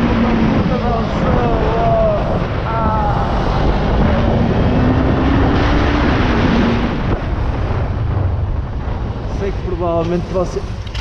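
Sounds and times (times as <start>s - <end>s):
motorcycle engine revving: 0.0s - 9.1s
wind noise on microphone: 0.0s - 11.0s.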